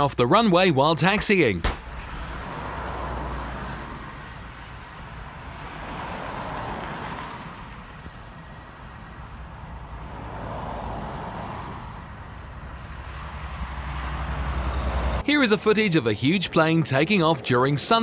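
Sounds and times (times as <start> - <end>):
cars driving past: 1.7 - 17.4.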